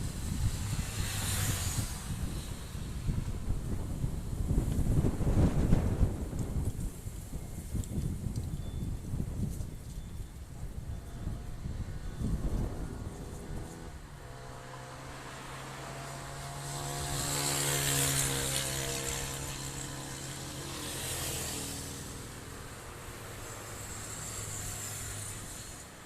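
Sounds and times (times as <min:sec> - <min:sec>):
rushing hiss in gusts: 0:00.0 - 0:08.2, 0:11.6 - 0:26.0.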